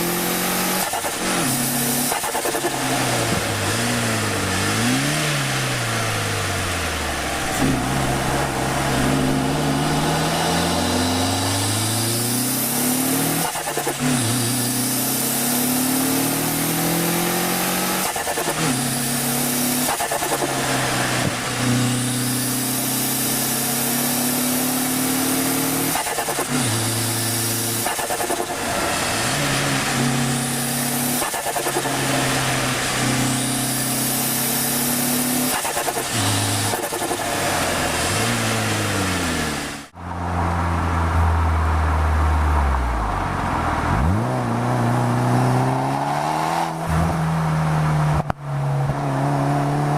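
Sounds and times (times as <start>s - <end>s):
car engine accelerating through gears: 0.0s - 49.9s.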